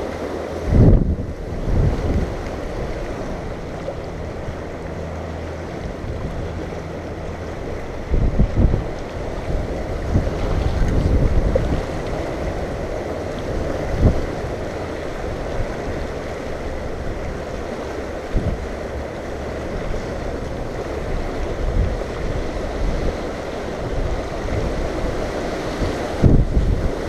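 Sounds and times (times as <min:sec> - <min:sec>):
river flowing: 0:00.0 - 0:27.0
wind gusting on microphone: 0:00.0 - 0:27.0.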